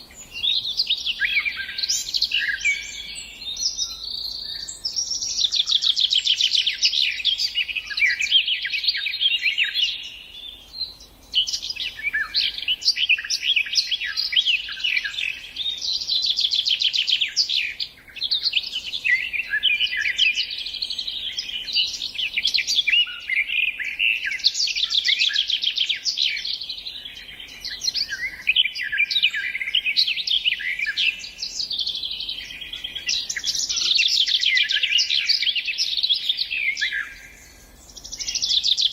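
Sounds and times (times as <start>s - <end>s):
songbird singing trills: 0.0s - 38.9s.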